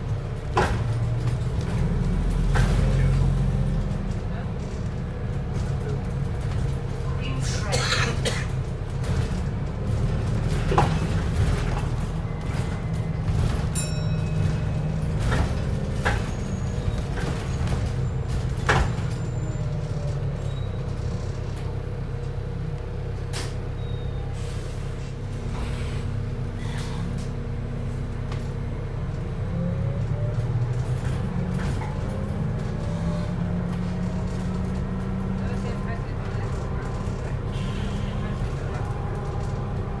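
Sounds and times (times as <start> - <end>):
knocks and rattles from bus body: 0.0 - 23.8, 24.9 - 40.0
bus engine drone: 0.0 - 40.0.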